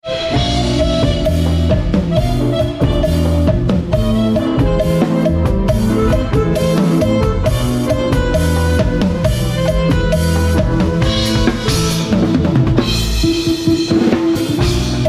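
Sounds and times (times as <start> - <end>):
drum kit: 0.0 - 15.0
live band playing dance music: 0.0 - 15.0.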